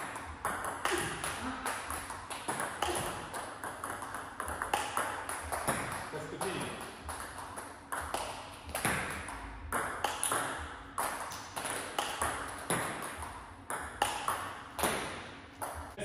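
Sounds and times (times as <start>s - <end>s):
table tennis ball pinging: 0.0s - 16.0s.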